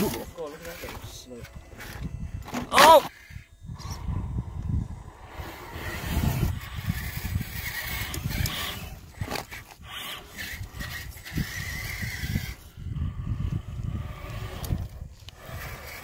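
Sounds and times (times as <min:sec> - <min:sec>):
toy truck electric motor whining: 0:00.0 - 0:16.0.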